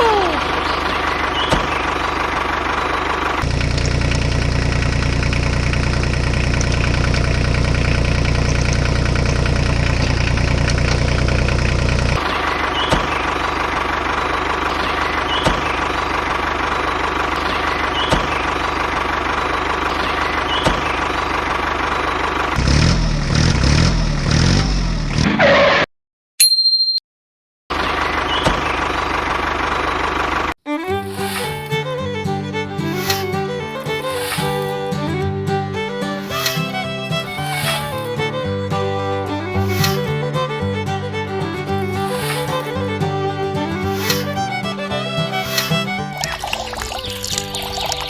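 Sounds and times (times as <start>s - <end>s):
model tractor engine drone: 0.4s - 25.2s, 30.3s - 46.9s.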